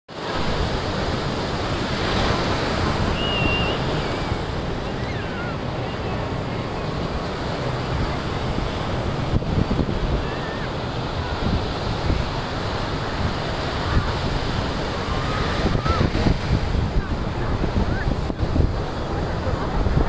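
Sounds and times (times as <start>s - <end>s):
ocean surf breaking: 0.1s - 20.0s
wind buffeting microphone: 0.2s - 20.0s.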